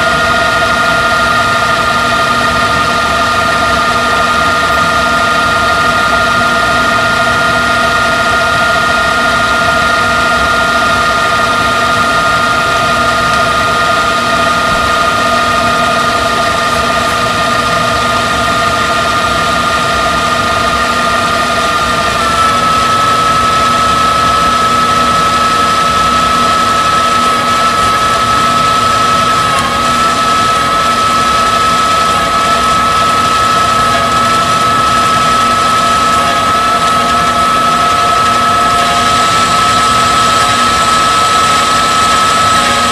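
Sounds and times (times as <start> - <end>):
tape reel drive whining: 0.0 - 42.9.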